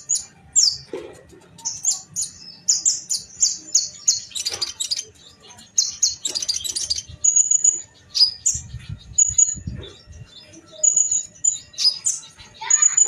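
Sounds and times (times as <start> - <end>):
sunbirds chattering: 0.0 - 13.0.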